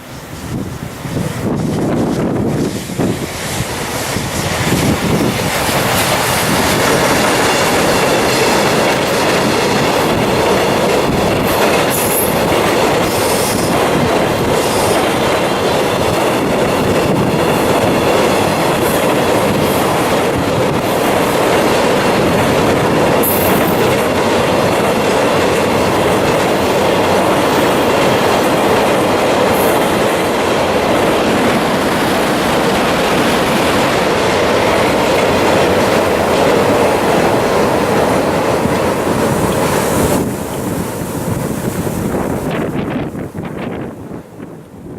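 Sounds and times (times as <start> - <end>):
freight train rumbling over bridge: 0.0 - 44.9
wheels clacking on rail joints: 1.2 - 43.9.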